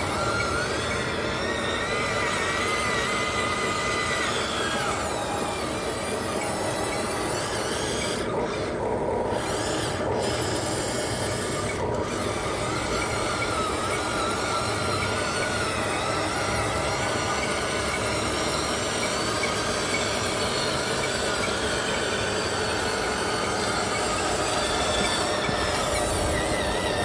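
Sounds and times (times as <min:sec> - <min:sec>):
toy truck motor whine: 0:00.0 - 0:27.0.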